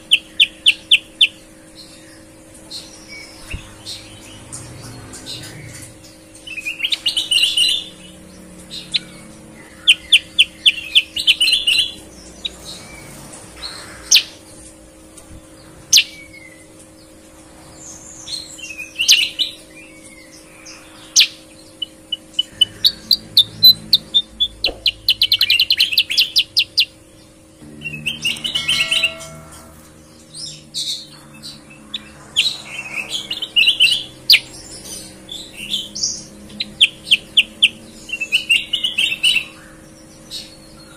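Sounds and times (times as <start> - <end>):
caged birds singing trilled notes: 0.0 - 40.9.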